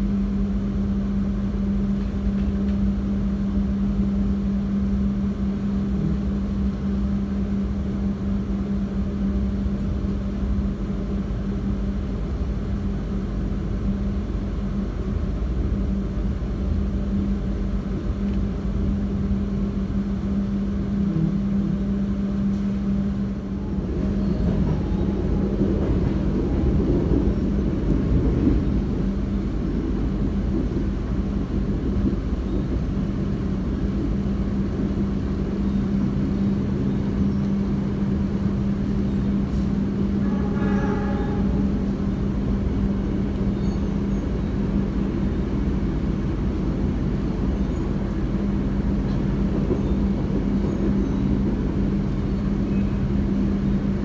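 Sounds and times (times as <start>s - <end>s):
passenger train running: 0.0s - 54.0s.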